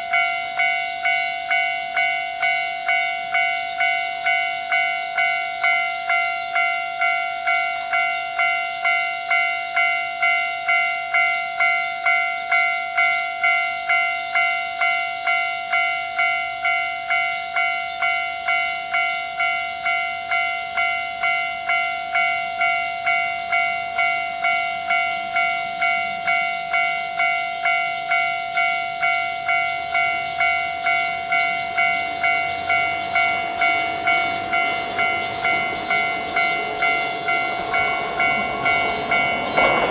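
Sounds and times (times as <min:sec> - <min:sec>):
level-crossing alarm dinging: 0:00.0 - 0:39.9
low rumble of diesel railcar: 0:00.0 - 0:39.9.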